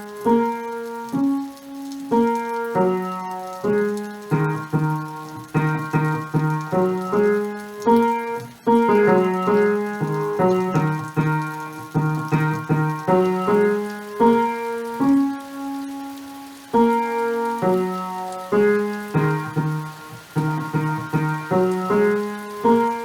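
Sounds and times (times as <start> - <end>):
piano melody: 0.0 - 23.0.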